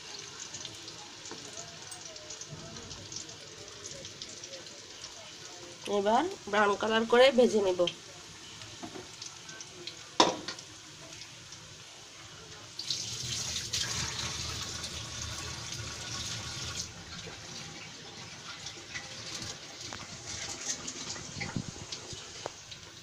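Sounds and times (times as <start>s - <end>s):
oil bubbling and sizzling: 0.0s - 23.0s.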